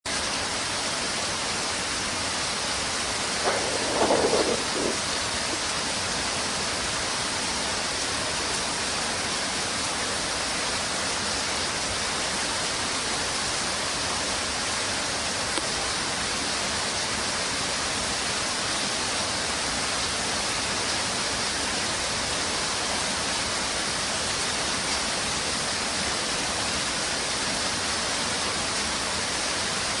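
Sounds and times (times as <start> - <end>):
steady rain: 0.1 - 30.0.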